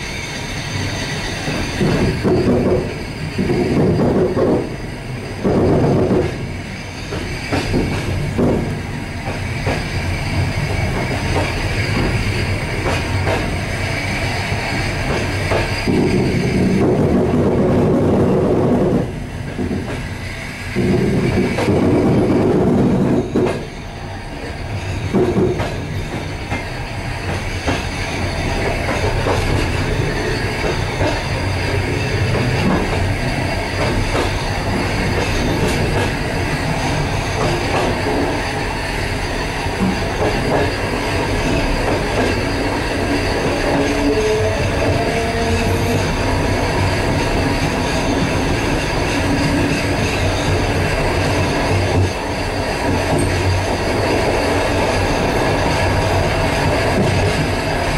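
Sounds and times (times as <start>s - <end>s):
train wheels rumbling and clattering: 0.0s - 57.9s.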